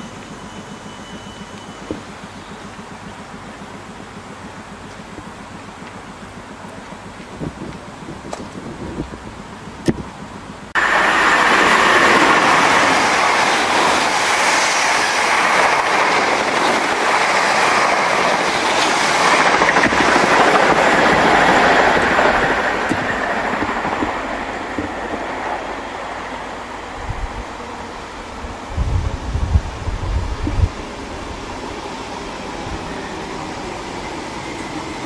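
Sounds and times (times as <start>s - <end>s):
train wheels rushing on rail: 0.0s - 35.0s.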